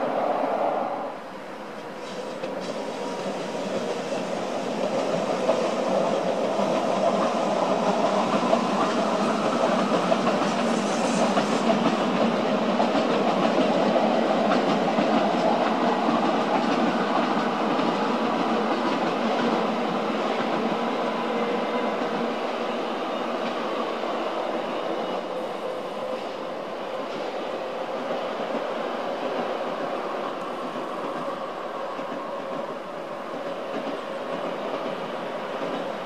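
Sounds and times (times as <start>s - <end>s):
train wheels clacking on rails: 1.6s - 36.0s.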